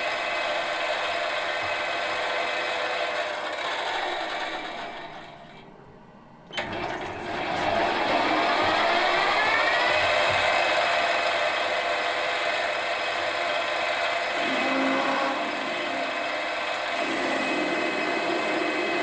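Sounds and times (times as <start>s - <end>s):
metal lathe running: 0.0s - 5.8s, 6.5s - 19.0s.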